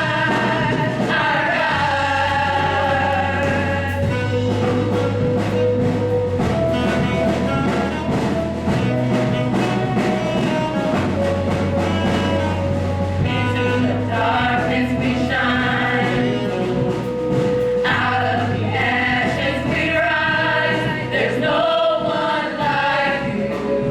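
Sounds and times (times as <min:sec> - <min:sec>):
band with steady bass line: 0:00.0 - 0:23.9
choir singing: 0:00.0 - 0:23.9.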